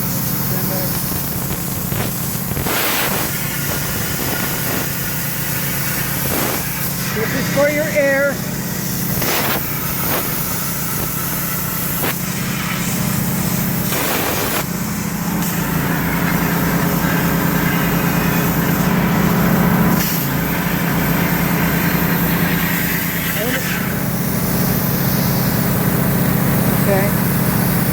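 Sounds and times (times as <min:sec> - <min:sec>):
low machine hum: 0:00.0 - 0:27.9
plasma cutter hissing: 0:00.0 - 0:27.9.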